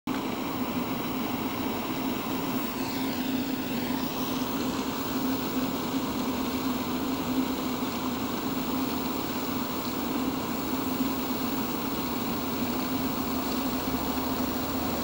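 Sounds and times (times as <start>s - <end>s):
low engine-like drone: 0.1s - 15.0s.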